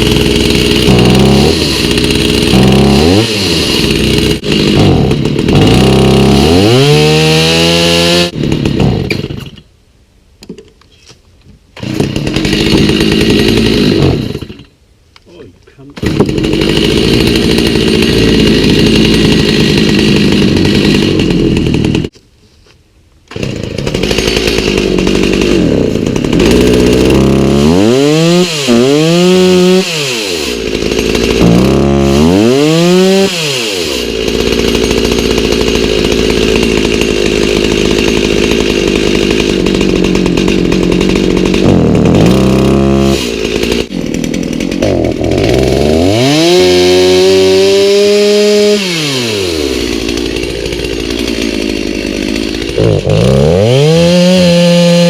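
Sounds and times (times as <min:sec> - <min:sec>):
chainsaw revving: 0:00.0 - 0:09.6, 0:11.8 - 0:14.7, 0:15.9 - 0:22.1, 0:23.3 - 0:55.0.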